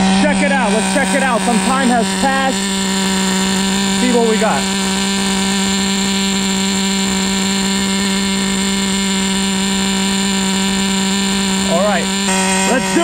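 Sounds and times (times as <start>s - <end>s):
small nitro engine idling: 0.0s - 13.0s.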